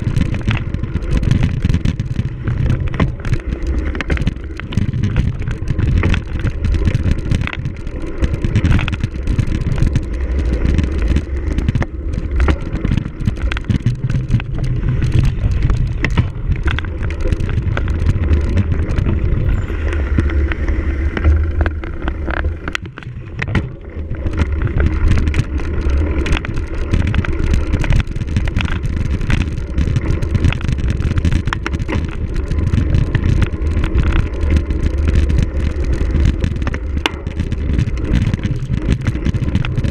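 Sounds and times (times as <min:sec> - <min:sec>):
bike frame and chain rattling: 0:00.0 - 0:39.9
wind rumble on microphone: 0:00.0 - 0:39.9.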